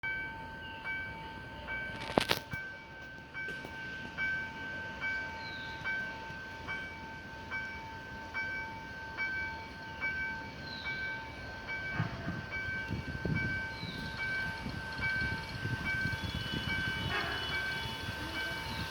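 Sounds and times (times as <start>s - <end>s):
level-crossing warning bell ringing: 0.0s - 18.9s.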